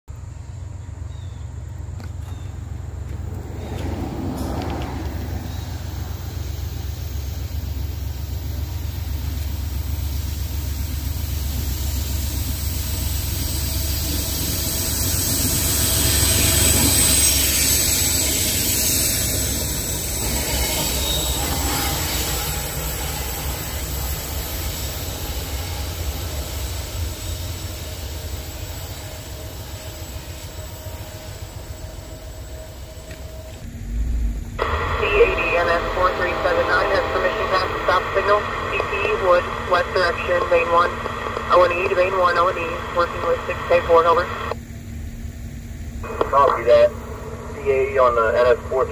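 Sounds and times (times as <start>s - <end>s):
diesel locomotive engine rumble: 0.0s - 48.9s.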